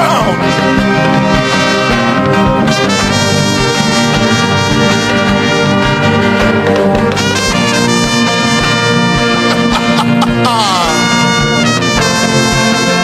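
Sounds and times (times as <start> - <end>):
brass chords: 0.0 - 13.0
steady low beat: 0.2 - 13.0.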